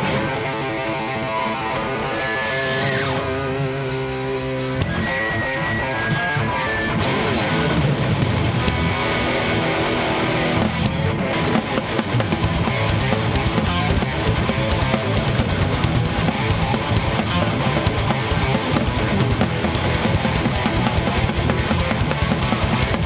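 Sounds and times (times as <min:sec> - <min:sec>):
drums and cymbals: 0:00.0 - 0:06.4, 0:07.8 - 0:23.0
bass guitar: 0:00.0 - 0:23.0
distorted electric guitar riff: 0:00.0 - 0:23.0.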